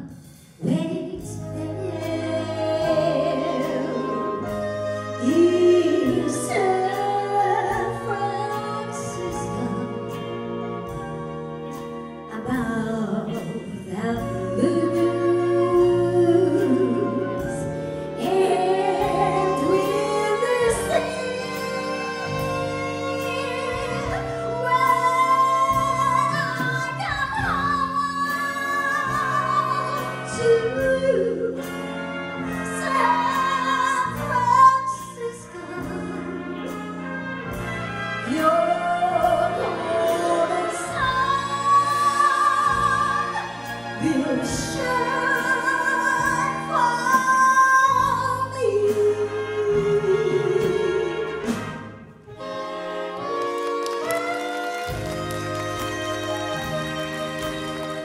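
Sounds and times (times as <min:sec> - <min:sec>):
woman singing: 0:00.0 - 0:10.4, 0:12.3 - 0:31.8, 0:32.6 - 0:36.8, 0:38.2 - 0:51.4
jazz big band playing: 0:00.0 - 0:58.0.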